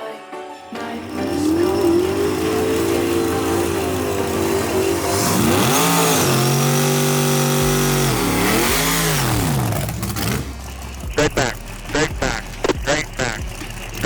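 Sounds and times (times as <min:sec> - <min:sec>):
race car engine revving: 0:00.7 - 0:14.0.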